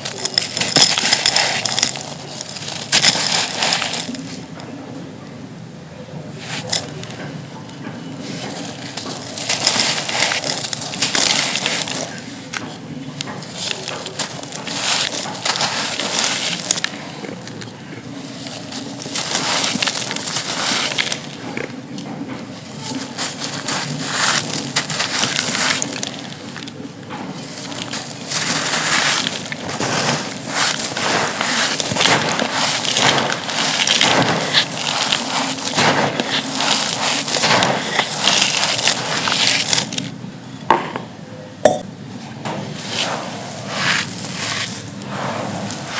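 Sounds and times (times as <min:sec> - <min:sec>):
dry clay crunching: 0:00.0 - 0:04.8, 0:06.2 - 0:40.8, 0:42.7 - 0:45.9.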